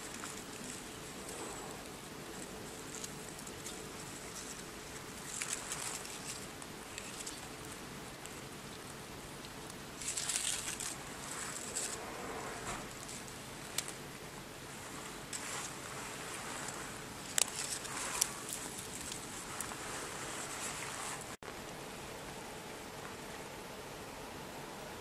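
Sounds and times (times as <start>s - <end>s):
dry leaves rustling and crackling: 0.0s - 21.4s
steady outdoor hiss: 0.0s - 25.0s.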